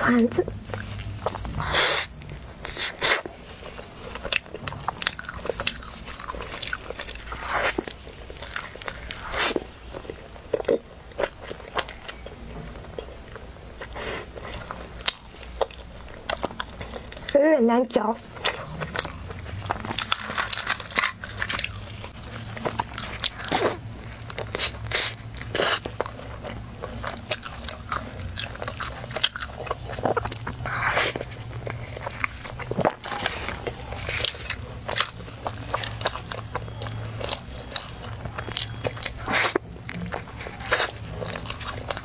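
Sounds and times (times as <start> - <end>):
chewing crunchy pastry: 0.0 - 42.0
steady low hum: 0.0 - 42.0.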